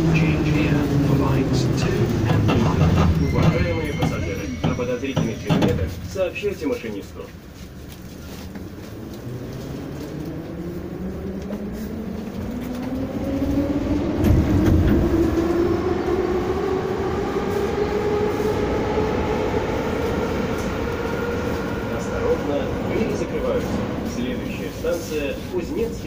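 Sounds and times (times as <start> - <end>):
wheels rumbling on rail: 0.0 - 26.0.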